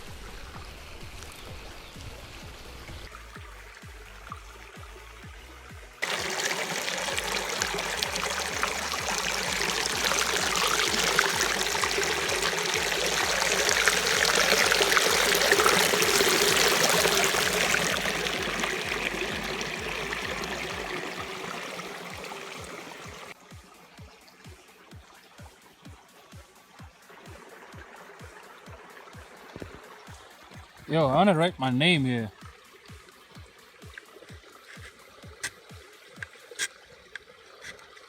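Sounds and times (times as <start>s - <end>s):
background music beat: 2.4s - 37.9s
rushing water: 5.9s - 38.0s.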